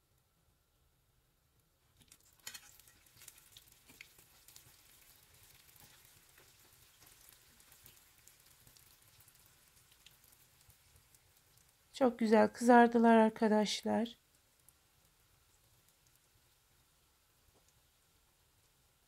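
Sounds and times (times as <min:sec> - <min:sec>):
hot oil sizzling: 0:01.9 - 0:13.1, 0:13.9 - 0:19.0.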